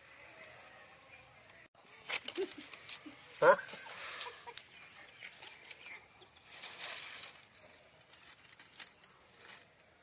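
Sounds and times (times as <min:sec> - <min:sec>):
small fire crackling and rustling: 0:01.9 - 0:10.0.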